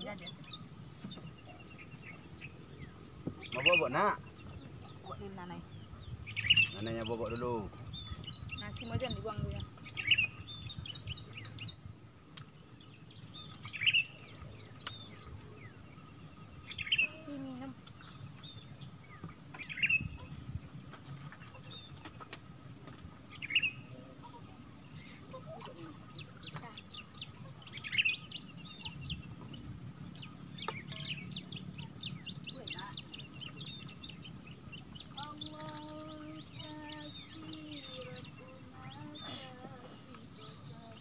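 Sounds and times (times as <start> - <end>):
birds calling: 0.0 - 41.0
faint bird chirps: 0.0 - 41.0
high drone of insects: 0.0 - 41.0.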